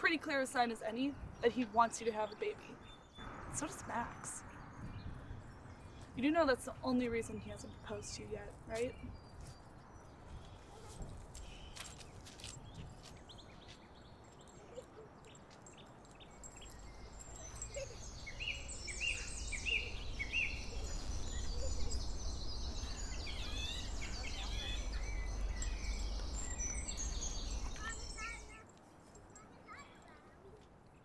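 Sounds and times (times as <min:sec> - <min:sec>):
birds chirping: 0:00.0 - 0:29.4.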